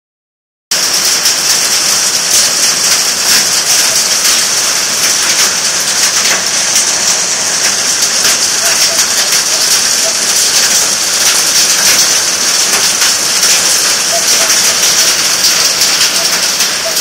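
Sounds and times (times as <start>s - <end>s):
heavy rain pouring: 0.7s - 17.0s
raindrops ticking on surfaces: 0.7s - 17.0s.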